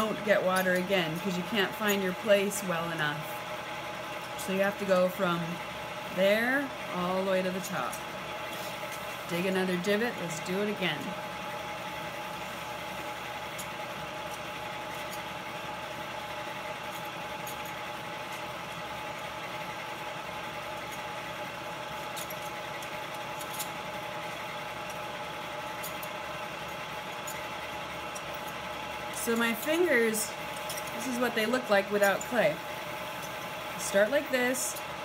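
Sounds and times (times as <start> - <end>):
pottery wheel motor hum: 0.0 - 35.0.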